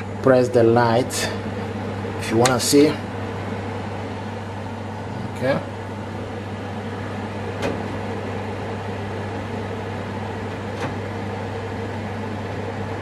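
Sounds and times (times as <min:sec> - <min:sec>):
extractor fan humming: 0:00.0 - 0:13.0.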